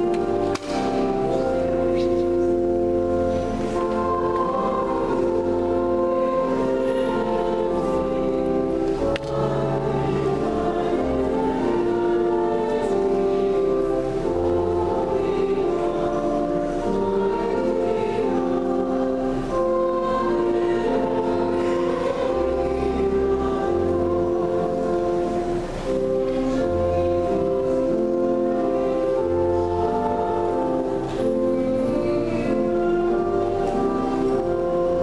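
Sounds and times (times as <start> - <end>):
church choir singing: 0.0 - 35.0
organ chords: 0.0 - 35.0.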